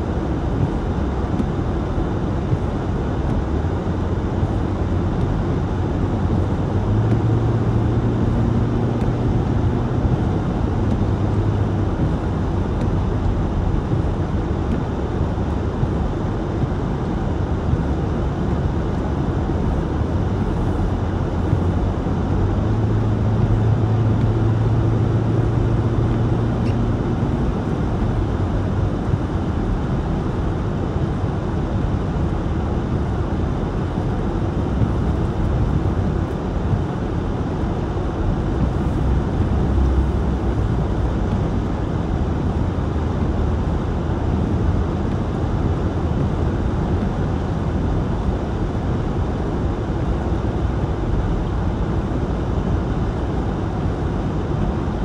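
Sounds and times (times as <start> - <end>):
low car cabin hum: 0.0 - 55.0.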